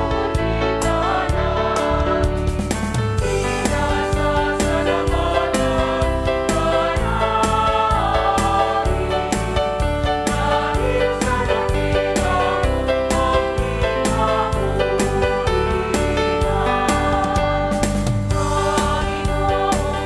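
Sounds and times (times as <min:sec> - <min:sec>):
group singing: 0:00.0 - 0:02.6, 0:03.2 - 0:20.0
steady beat and bass: 0:00.0 - 0:20.0.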